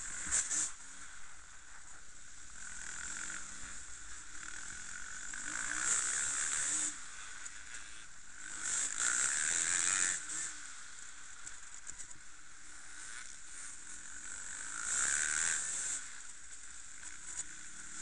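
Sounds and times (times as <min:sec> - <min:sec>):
dirt bike engines buzzing: 0:00.0 - 0:18.0.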